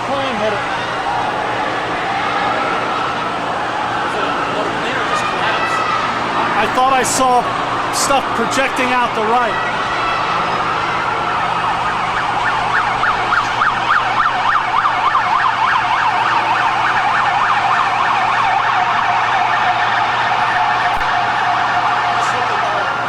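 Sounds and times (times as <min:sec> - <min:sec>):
sirens yelping: 0:00.0 - 0:23.0.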